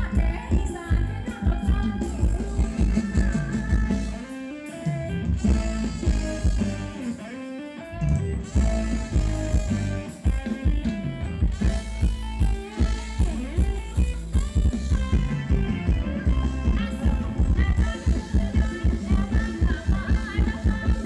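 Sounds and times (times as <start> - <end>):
band playing upbeat dance music: 0.0 - 21.0.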